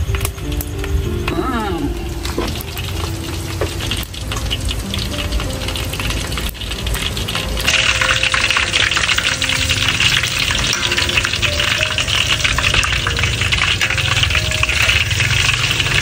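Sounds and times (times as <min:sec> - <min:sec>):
fish cakes sizzling in oil: 0:02.0 - 0:16.0.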